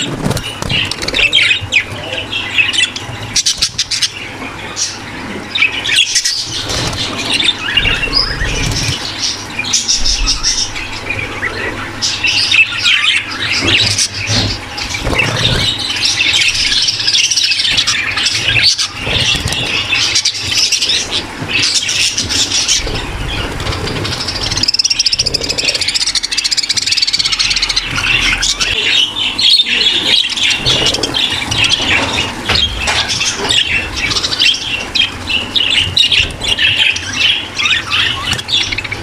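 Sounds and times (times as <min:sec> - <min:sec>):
budgerigars chattering and squawking: 0:00.0 - 0:39.0.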